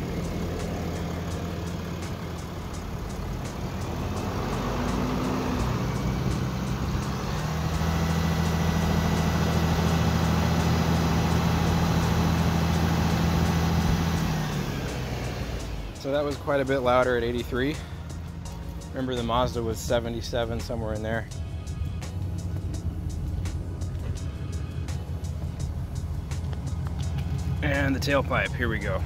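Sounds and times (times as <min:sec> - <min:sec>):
diesel engine running at raised revs: 0:00.0 - 0:29.0.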